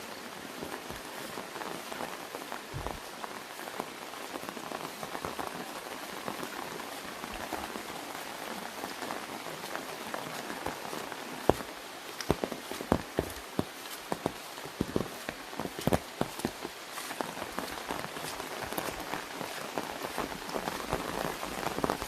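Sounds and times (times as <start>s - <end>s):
raindrops hitting an umbrella: 0.0s - 22.0s
steady rain falling: 0.0s - 22.0s.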